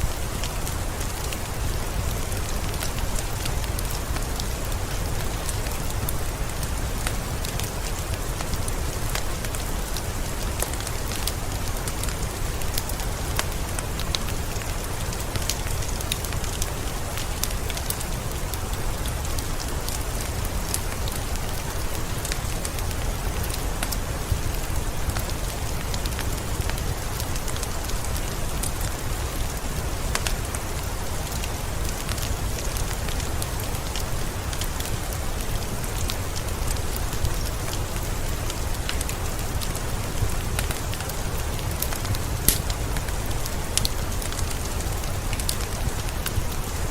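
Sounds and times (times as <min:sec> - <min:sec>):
rain falling: 0:00.0 - 0:46.9
wood fire crackling: 0:00.0 - 0:46.9.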